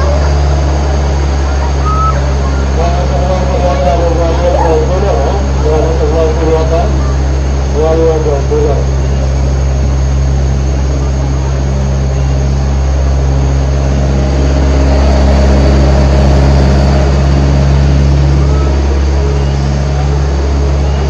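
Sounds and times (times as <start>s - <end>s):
tram engine hum: 0.0s - 21.0s.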